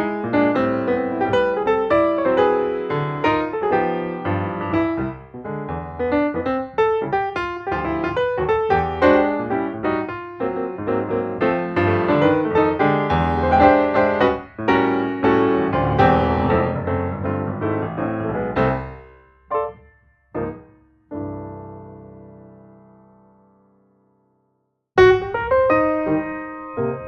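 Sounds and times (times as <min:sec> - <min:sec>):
piano music: 0:00.0 - 0:24.2, 0:25.0 - 0:27.0.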